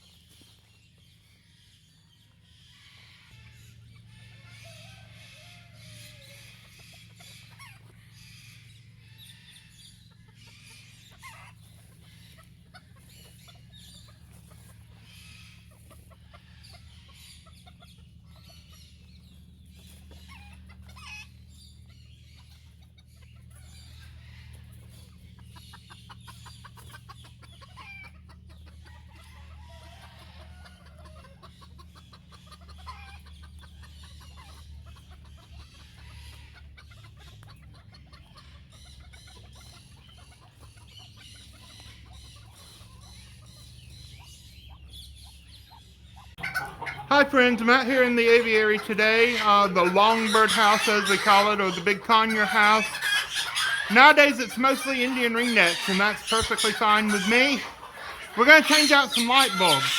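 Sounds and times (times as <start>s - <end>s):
birds calling and chattering: 0.0s - 59.9s.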